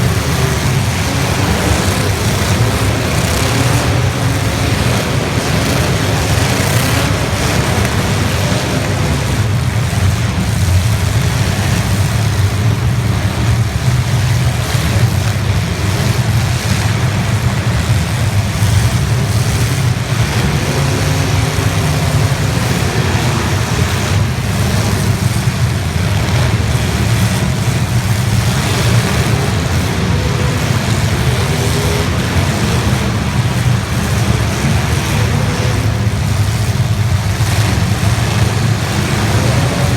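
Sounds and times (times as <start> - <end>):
car engines rumbling and revving: 0.0 - 39.9.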